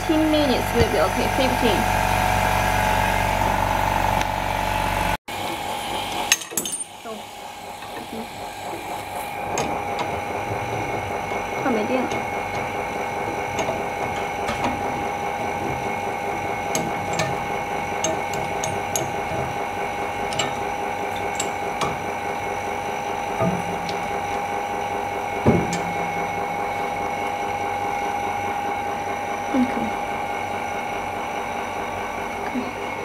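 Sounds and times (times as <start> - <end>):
machinery electric hum: 0.0 - 33.0.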